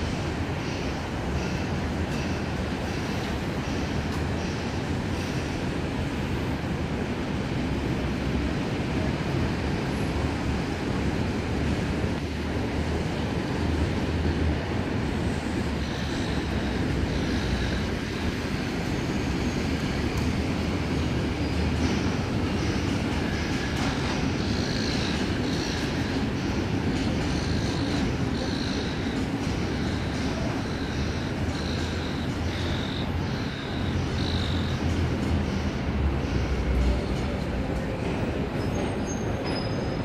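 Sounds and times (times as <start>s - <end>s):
electric train rumbling: 0.0s - 40.0s.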